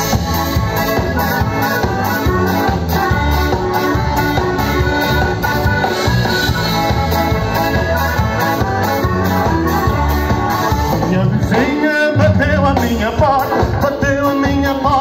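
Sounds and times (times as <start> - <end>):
live band with accordions: 0.0 - 15.0.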